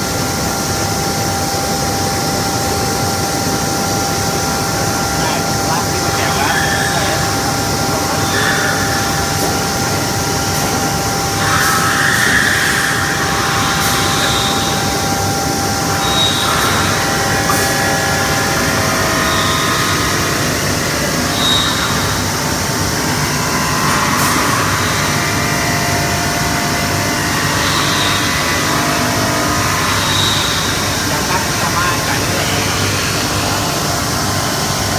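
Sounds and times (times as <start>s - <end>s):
glass-cutting machine running: 0.0s - 34.9s
motor whines: 0.2s - 34.9s.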